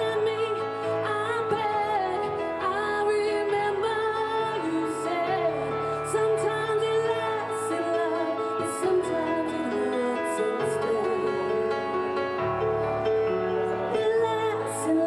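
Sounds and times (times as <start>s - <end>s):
woman singing: 0.0s - 12.4s, 13.8s - 15.0s
backing track bass and keyboard: 0.0s - 15.0s.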